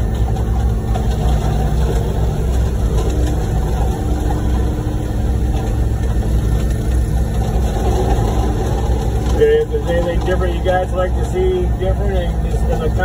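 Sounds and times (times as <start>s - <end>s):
diesel truck engines running: 0.0s - 13.0s.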